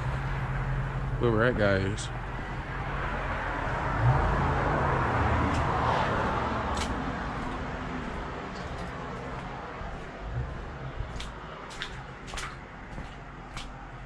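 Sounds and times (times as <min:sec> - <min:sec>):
low engine hum: 0:00.0 - 0:14.0
vehicle passing: 0:00.0 - 0:14.0.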